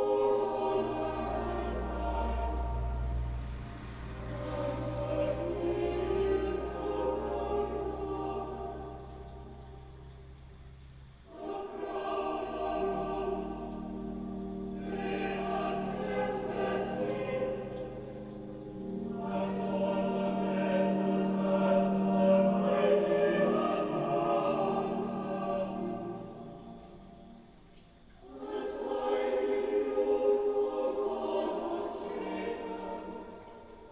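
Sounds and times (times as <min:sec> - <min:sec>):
choir singing: 0:00.0 - 0:10.2, 0:11.2 - 0:27.6, 0:28.2 - 0:33.9
low steady tone: 0:00.0 - 0:28.9.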